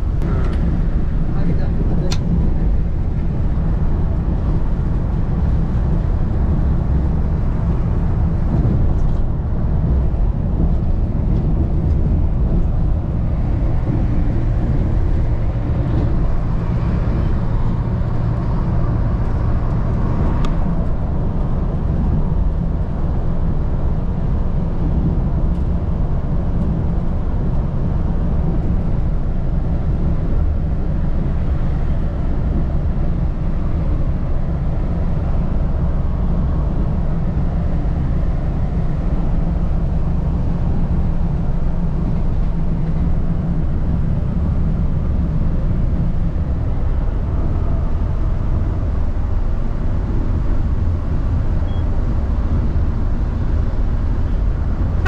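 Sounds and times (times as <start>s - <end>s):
bus engine drone: 0.0s - 55.0s
road and tyre rumble: 0.0s - 55.0s.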